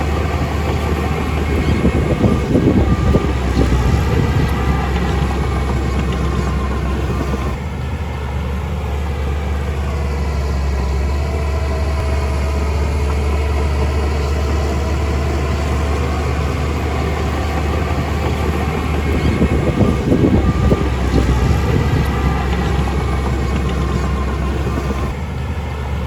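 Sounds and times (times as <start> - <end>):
faint steady tones: 0.0 - 25.5
heavy diesel engine rumbling: 0.0 - 26.0.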